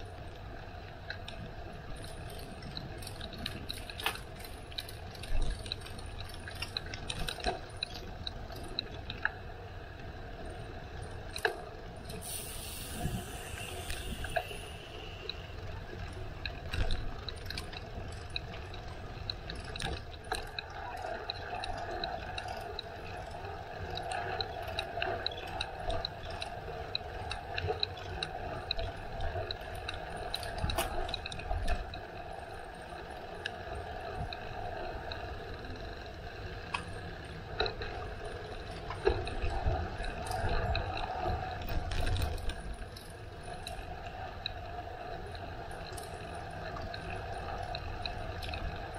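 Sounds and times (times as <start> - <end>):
bicycle drivetrain ticking: 0.0 - 48.9
wind rumbling on microphone: 0.0 - 48.9
bicycle tyre noise: 0.1 - 48.9.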